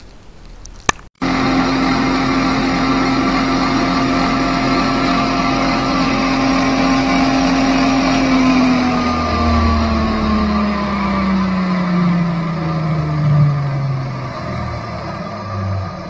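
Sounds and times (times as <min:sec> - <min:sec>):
lathe motor humming: 0:01.2 - 0:16.0.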